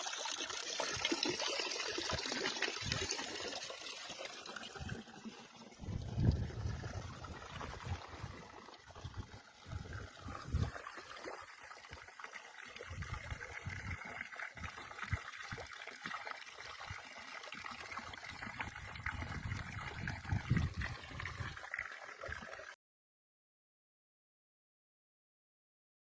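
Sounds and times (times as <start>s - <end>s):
stream water trickling: 0.0s - 22.8s.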